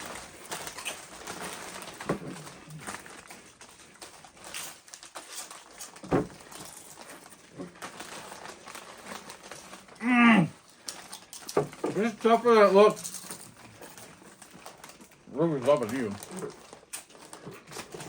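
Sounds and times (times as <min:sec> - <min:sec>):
chewing crunchy chips: 0:00.0 - 0:18.0
faint crinkling: 0:00.0 - 0:18.0.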